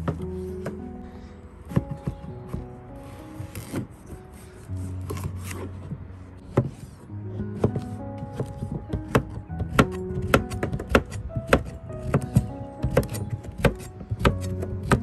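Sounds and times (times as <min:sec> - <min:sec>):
background music with held notes: 0:00.0 - 0:15.0.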